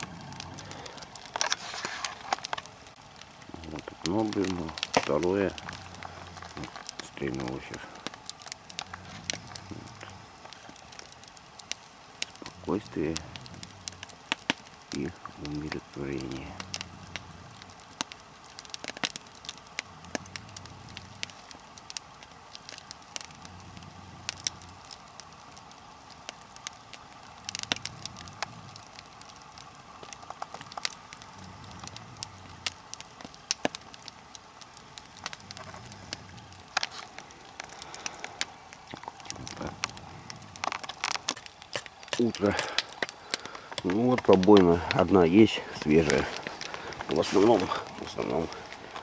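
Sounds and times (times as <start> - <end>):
log fire crackling and popping: 0.0 - 49.0
loud snaps of fire: 0.0 - 49.0.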